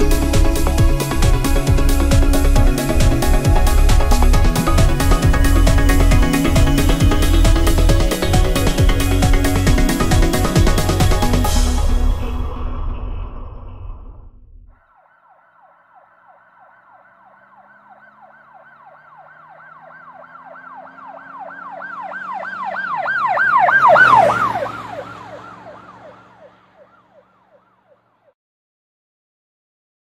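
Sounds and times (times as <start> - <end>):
emergency vehicle siren yelping: 0.0 - 13.0, 14.7 - 28.3.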